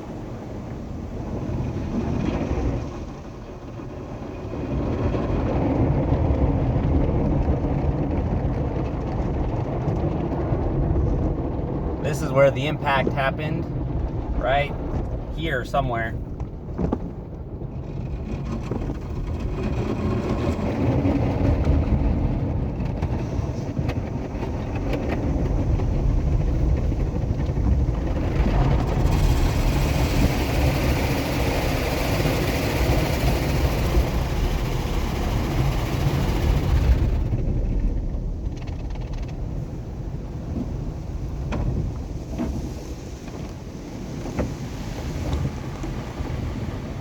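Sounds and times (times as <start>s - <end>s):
car wash low rumble: 0.0s - 47.0s.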